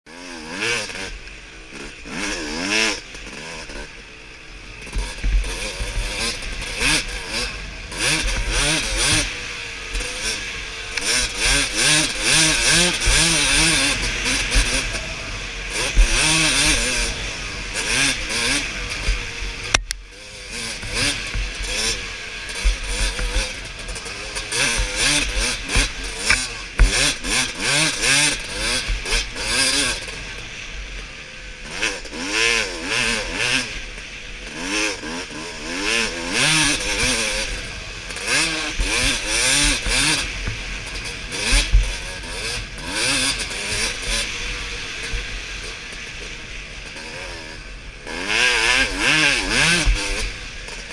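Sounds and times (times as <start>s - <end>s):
motorbike engine revving: 0.1s - 50.9s.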